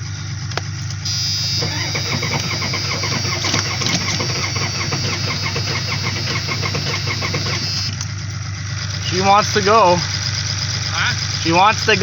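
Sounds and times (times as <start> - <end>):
diesel engine knocking clatter: 0.0 - 12.0.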